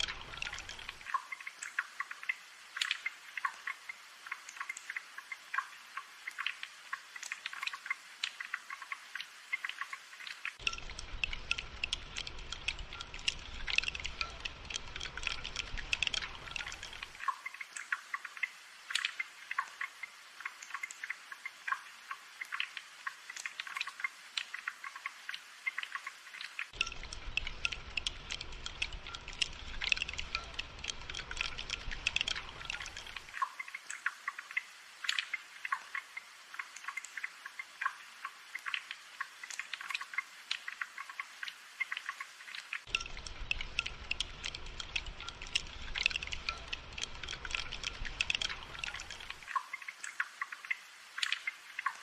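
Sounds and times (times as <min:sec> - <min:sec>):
rain drops ticking: 0:00.0 - 0:52.0.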